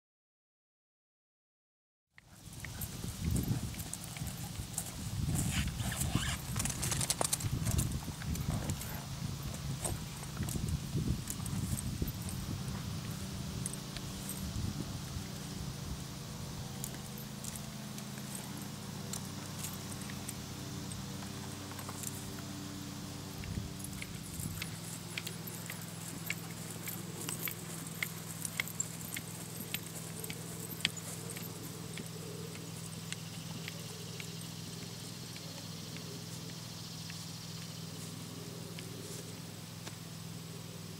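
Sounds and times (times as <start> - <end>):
horse hooves on grass: 2.2 - 40.9
steady low hum: 2.2 - 40.9.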